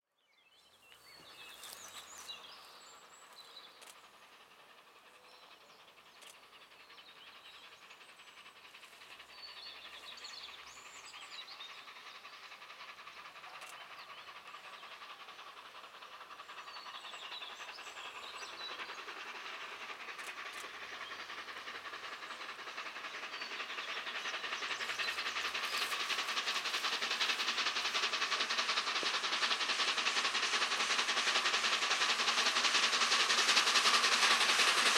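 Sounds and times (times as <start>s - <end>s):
steam locomotive exhaust beats: 1.0s - 34.9s.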